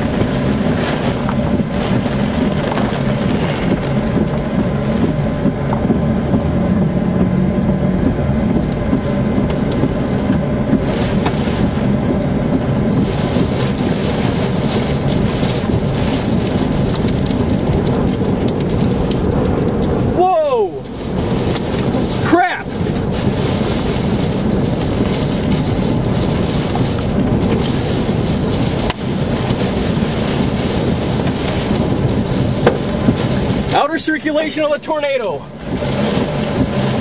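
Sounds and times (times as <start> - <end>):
car driving on road: 0.0 - 37.0
heavy rain: 0.0 - 37.0
raindrops ticking on windshield: 0.0 - 37.0
wind noise: 0.0 - 37.0.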